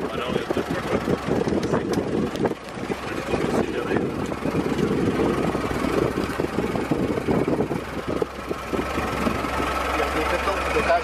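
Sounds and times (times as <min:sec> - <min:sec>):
old car engine chattering: 0:00.0 - 0:11.0.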